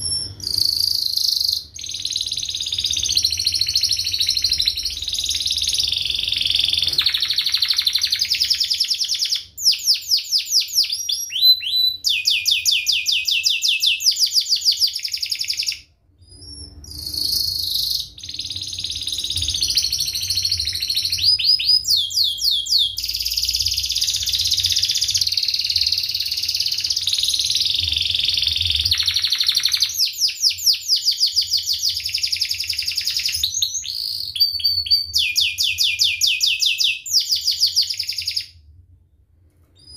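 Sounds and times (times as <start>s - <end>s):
canary singing: 0.0s - 38.6s.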